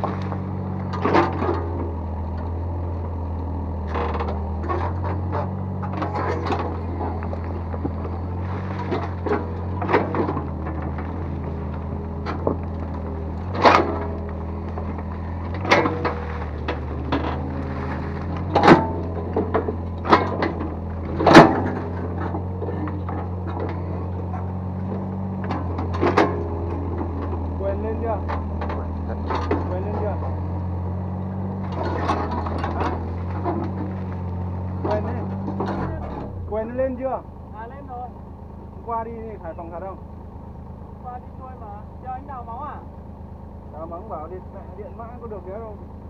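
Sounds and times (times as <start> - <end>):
excavator bucket clanking: 0.0 - 37.0
excavator diesel engine running: 0.0 - 46.0.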